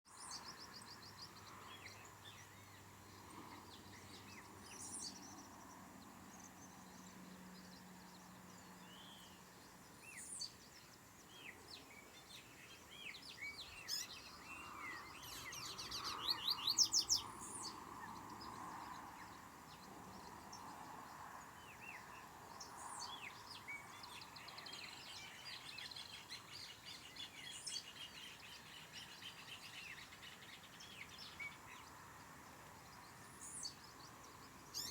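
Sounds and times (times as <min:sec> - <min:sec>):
faint background hiss: 0:00.1 - 0:34.9
songbird chirps and trills: 0:00.1 - 0:34.9.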